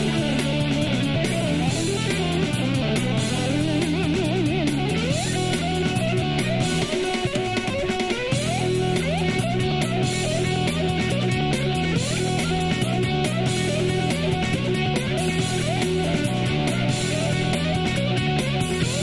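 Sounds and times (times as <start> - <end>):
bass notes: 0.0 - 19.0
drums: 0.0 - 19.0
electric ukulele lead line: 0.0 - 19.0.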